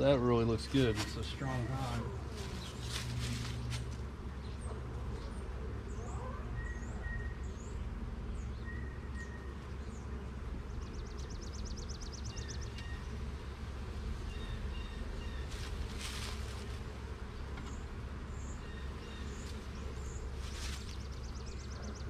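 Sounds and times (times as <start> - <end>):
birds chirping: 0.0 - 22.0
honeybees humming: 0.0 - 22.0.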